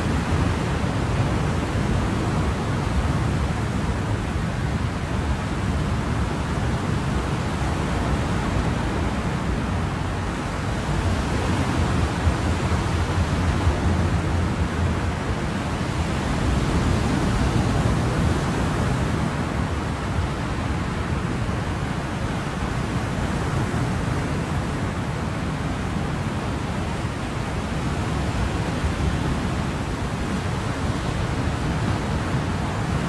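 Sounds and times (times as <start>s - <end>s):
ocean waves on shore: 0.0s - 33.0s.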